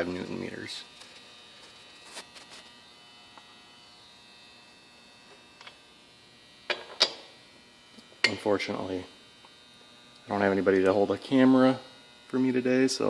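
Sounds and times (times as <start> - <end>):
electrical hum: 0.0 - 13.0
faint high whine: 0.0 - 13.0.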